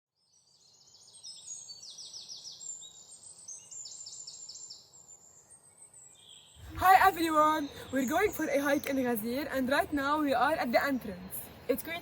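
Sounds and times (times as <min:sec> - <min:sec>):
songbirds singing: 0:00.2 - 0:12.0.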